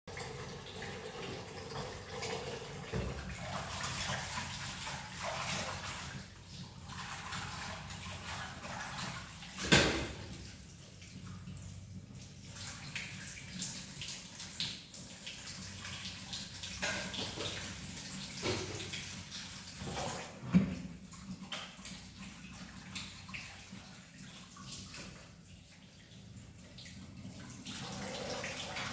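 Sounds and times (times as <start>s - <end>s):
water running in a sink: 0.1s - 28.9s.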